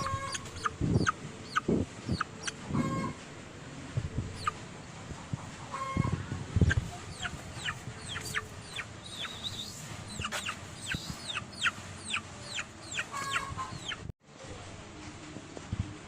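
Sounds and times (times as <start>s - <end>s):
chicks peeping: 0.0s - 3.2s, 4.2s - 14.1s.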